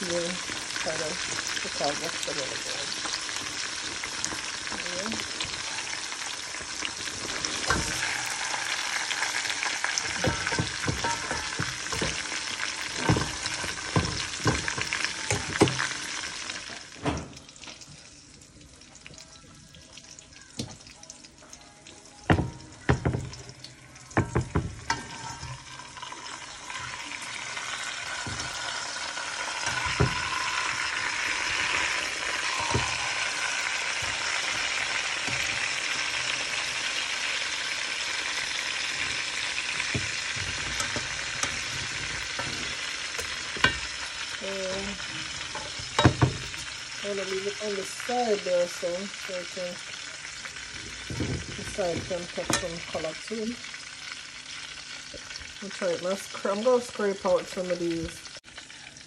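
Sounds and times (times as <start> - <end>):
meat sizzling in oil: 0.0 - 59.0.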